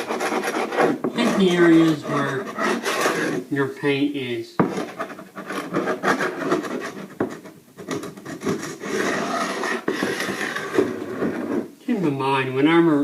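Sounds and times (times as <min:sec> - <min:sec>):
scraper scraping wooden floor: 0:00.0 - 0:03.5, 0:04.6 - 0:11.7.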